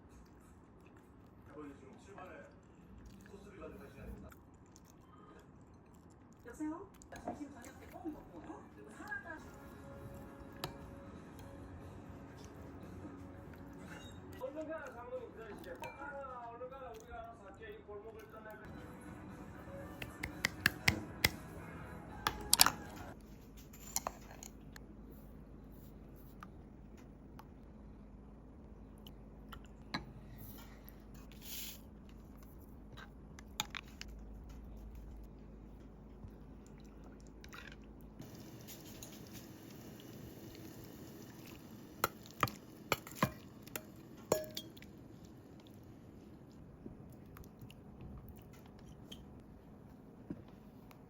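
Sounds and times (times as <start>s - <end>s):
faint background music: 0.0s - 51.0s.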